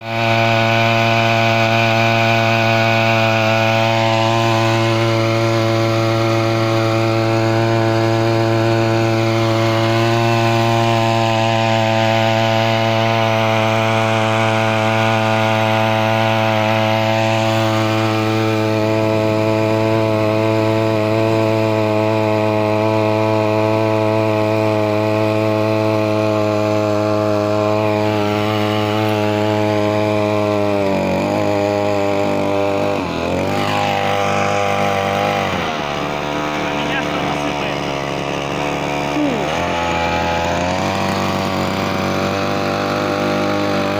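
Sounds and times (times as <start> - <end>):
small petrol engine buzzing: 0.0 - 43.9.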